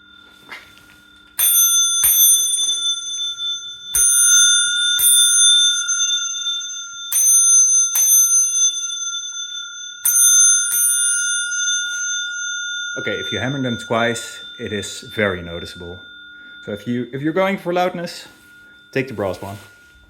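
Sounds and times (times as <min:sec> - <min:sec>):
bicycle bells ringing: 0:00.0 - 0:20.0.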